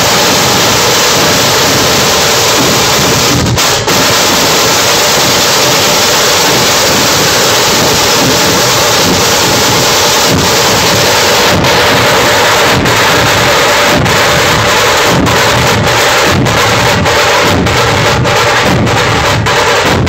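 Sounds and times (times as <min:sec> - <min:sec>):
distorted massed drumming: 0:00.0 - 0:20.0.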